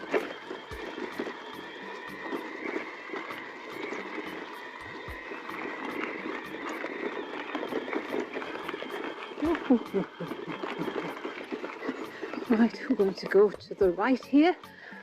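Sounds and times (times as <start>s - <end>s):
faint high whine: 0.0s - 13.8s
bike tyres on rough track: 0.0s - 15.0s.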